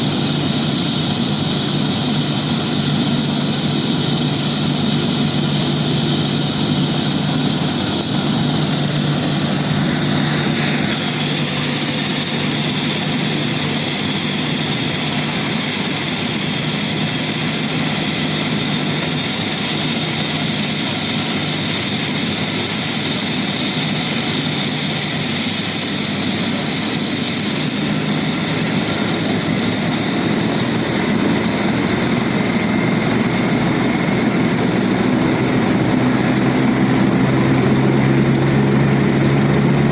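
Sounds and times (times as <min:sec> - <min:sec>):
helicopter turbine whine and rotor: 0:00.0 - 0:39.9.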